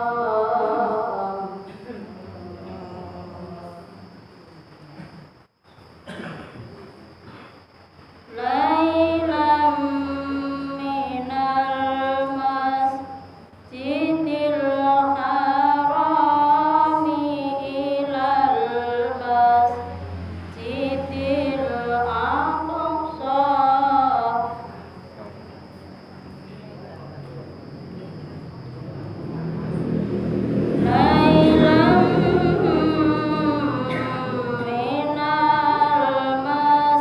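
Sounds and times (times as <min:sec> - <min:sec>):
woman chanting recitation: 0:00.0 - 0:04.3, 0:08.3 - 0:26.9, 0:29.2 - 0:37.0.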